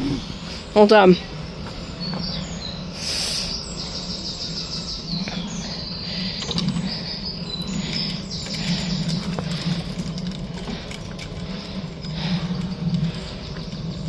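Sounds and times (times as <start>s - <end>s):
songbirds chirping and trilling: 0.0s - 14.0s
steady low hum: 0.0s - 14.0s.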